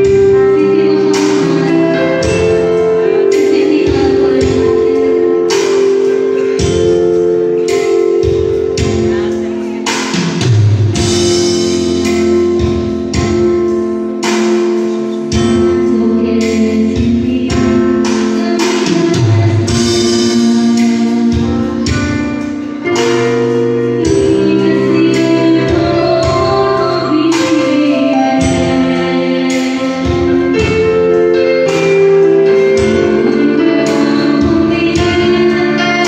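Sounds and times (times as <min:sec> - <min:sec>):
woman singing into microphone: 0:00.0 - 0:10.4, 0:11.0 - 0:36.0
electronic keyboard with beat: 0:00.0 - 0:36.0.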